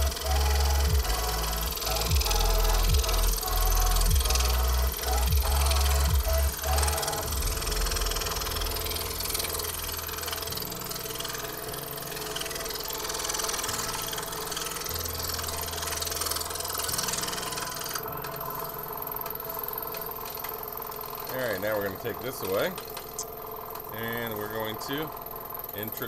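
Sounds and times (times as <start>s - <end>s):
scroll saw cutting wood: 0.0s - 23.2s.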